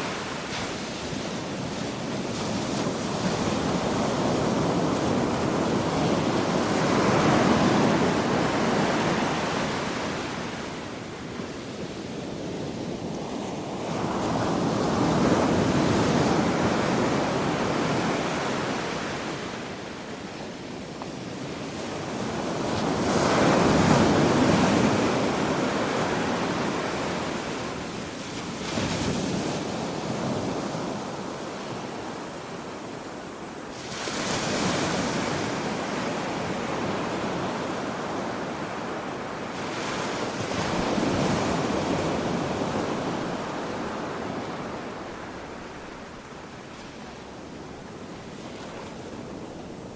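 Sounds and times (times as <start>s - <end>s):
ocean waves breaking on beach: 0.0s - 49.9s
wind: 0.0s - 49.9s.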